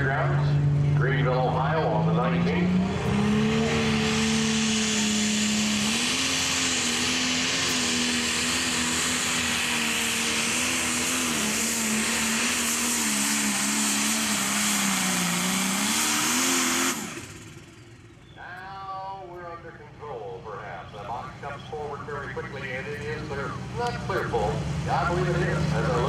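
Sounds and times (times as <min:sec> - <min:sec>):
diesel engine running hard: 0:00.0 - 0:26.0.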